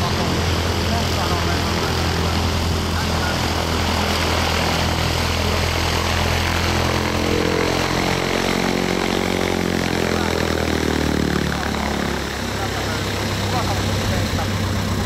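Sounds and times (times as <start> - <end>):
biplane engine droning: 0.0 - 15.0.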